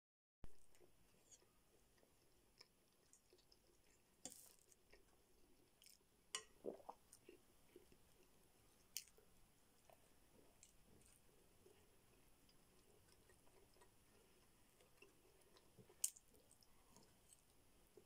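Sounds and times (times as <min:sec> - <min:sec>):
soft chewing: 0:00.4 - 0:18.0.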